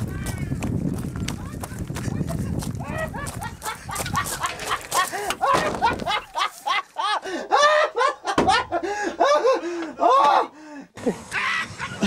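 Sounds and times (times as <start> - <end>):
man laughing hard: 2.0 - 12.0.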